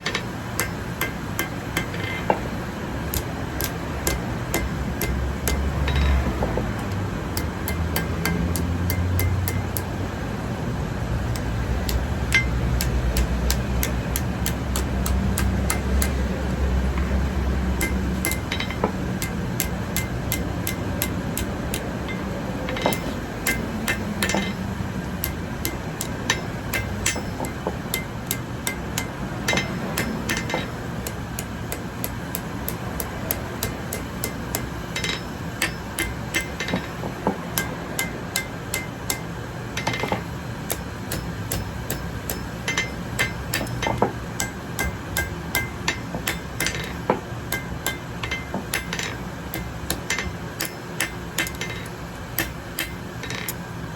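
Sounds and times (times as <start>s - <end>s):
hammer striking metal on anvil: 0.0s - 10.0s, 11.2s - 53.7s
low steady hum: 0.0s - 53.9s.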